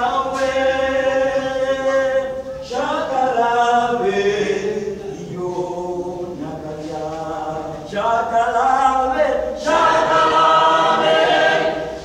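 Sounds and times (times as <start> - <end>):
church choir singing: 0.0 - 12.0.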